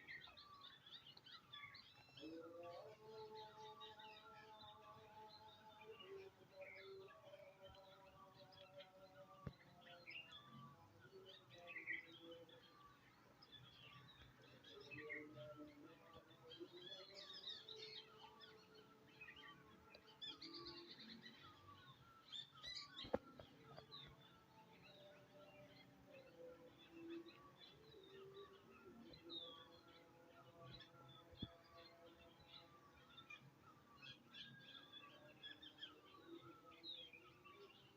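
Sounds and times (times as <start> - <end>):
birds chirping and trilling: 0.0 - 37.9.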